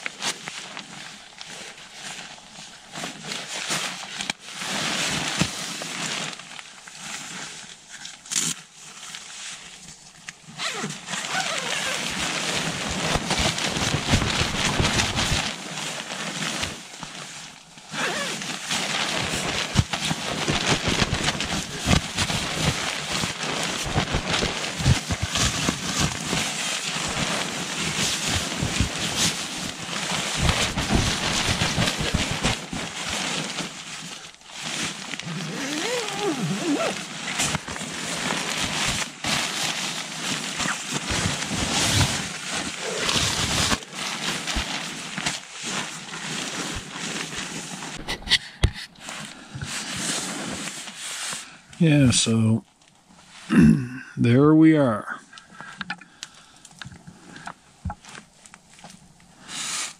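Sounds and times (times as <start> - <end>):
sleeping bag nylon rustling: 0.0 - 52.1, 56.4 - 59.9.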